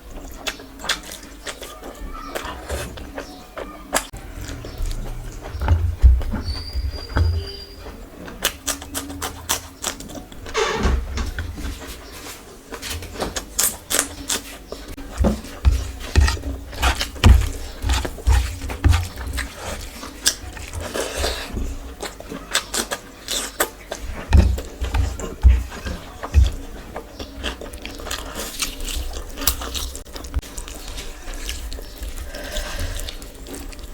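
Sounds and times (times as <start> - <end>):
person chewing food: 0.0 - 10.5, 11.6 - 33.9.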